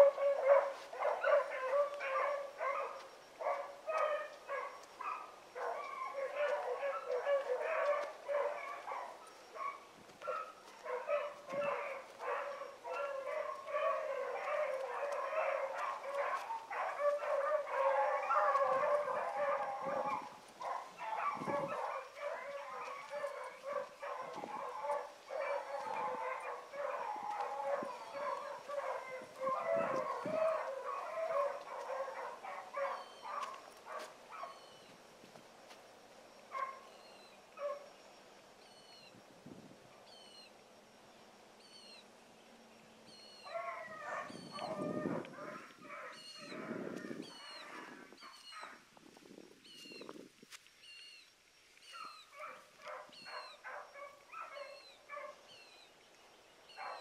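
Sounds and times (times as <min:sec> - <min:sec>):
hounds baying: 0:00.0 - 0:35.0, 0:36.5 - 0:37.9, 0:43.1 - 0:48.8, 0:51.8 - 0:55.8, 0:56.7 - 0:57.0.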